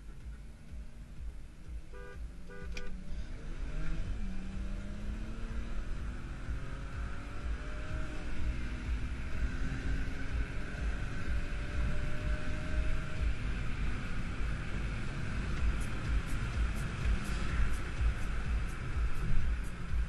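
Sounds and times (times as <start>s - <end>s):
car engine accelerating: 0.0s - 20.0s
road and wind rumble: 0.0s - 20.0s.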